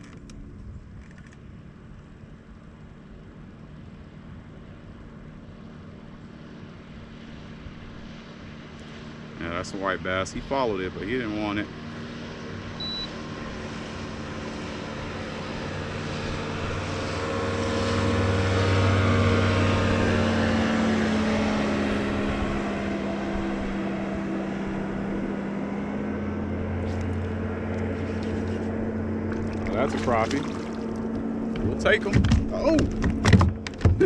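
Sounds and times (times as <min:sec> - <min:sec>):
passing engine hum: 0:00.0 - 0:34.0.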